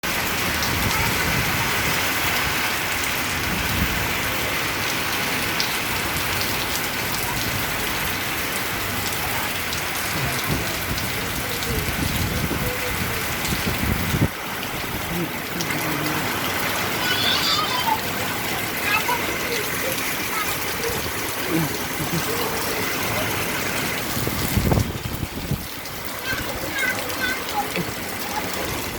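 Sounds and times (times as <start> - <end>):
rain falling steadily: 0.0 - 28.9
raindrops ticking: 0.0 - 28.9.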